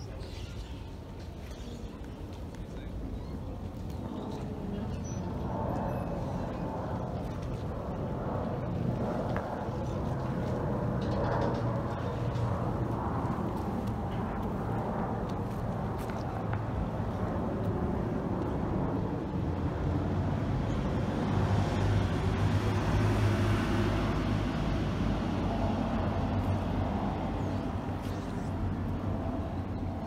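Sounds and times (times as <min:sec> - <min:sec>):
city background noise: 0:00.0 - 0:30.0.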